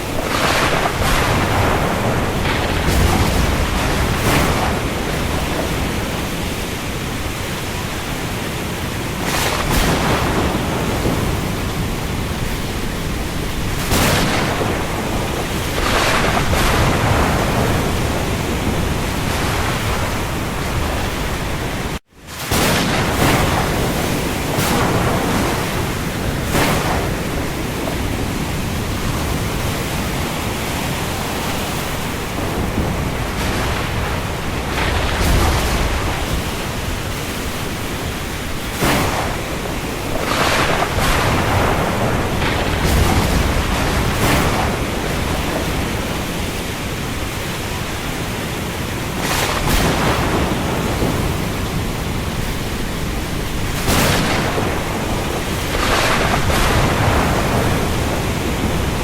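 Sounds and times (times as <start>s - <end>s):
heavy rain on sea: 0.0s - 59.0s
water splashing: 0.0s - 59.0s.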